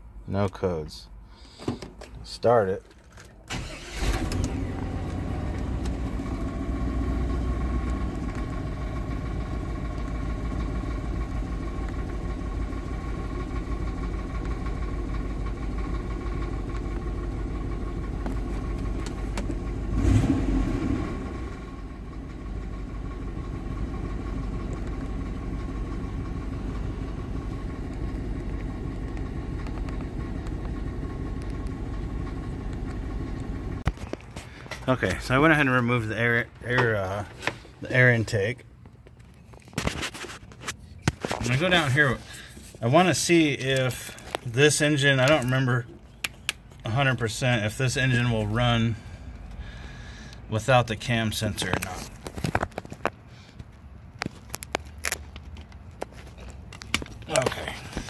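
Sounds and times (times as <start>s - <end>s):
car engine starting and idling: 2.7s - 39.8s, 40.5s - 58.0s.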